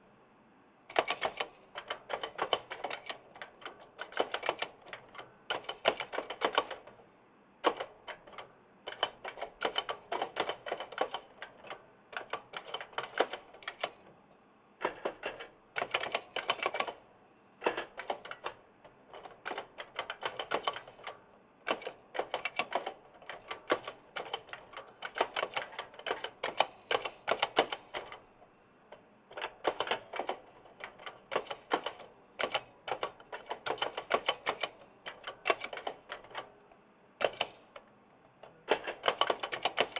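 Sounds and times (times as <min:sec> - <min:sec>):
clicky keyboard typing: 0:00.9 - 0:07.0, 0:07.6 - 0:14.1, 0:14.8 - 0:17.0, 0:17.6 - 0:28.3, 0:29.3 - 0:36.5, 0:37.2 - 0:37.9, 0:38.7 - 0:39.9.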